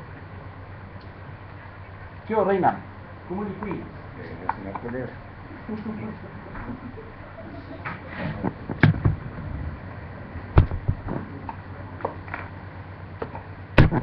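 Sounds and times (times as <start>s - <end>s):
room noise hum: 0.0s - 14.0s.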